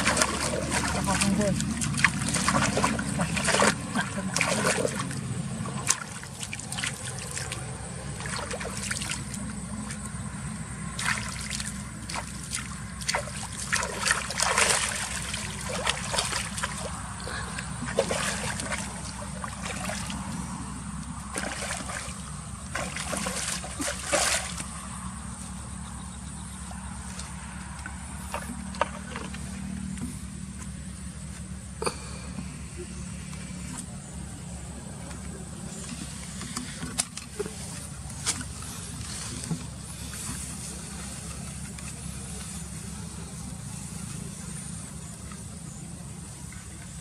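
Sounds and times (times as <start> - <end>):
water splashing and trickling: 0.0 - 25.5, 26.8 - 30.2, 33.2 - 44.6
steady low hum: 0.0 - 47.0.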